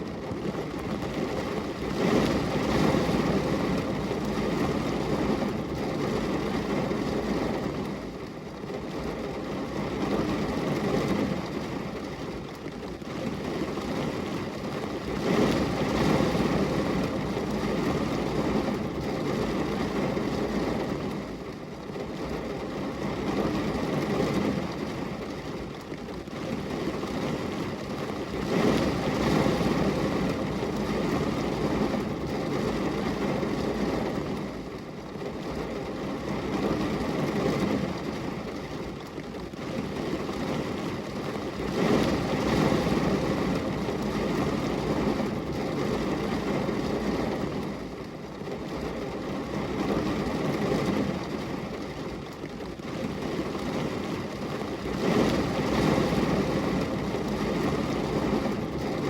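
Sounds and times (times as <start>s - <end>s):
rain on a glass window: 0.0s - 59.0s.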